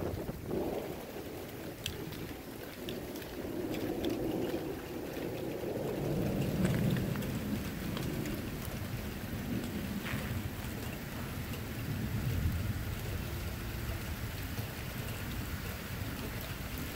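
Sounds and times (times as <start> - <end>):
rain ticks: 0.0 - 16.9
thunder rumbling: 0.0 - 16.9.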